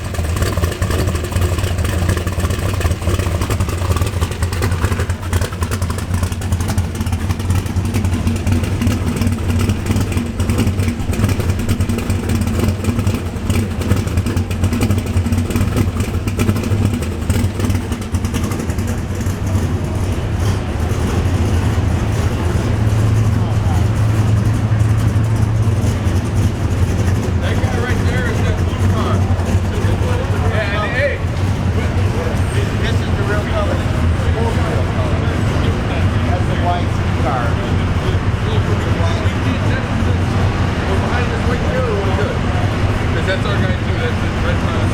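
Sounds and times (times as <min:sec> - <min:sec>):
vee eight exhaust rumbling: 0:00.0 - 0:44.9.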